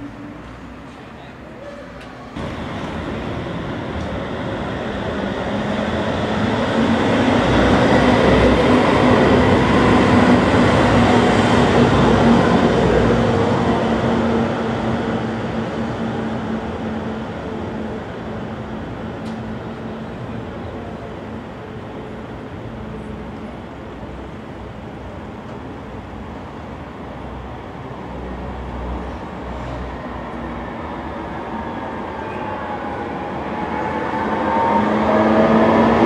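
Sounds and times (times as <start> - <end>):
tram rumbling past: 0.0 - 36.0.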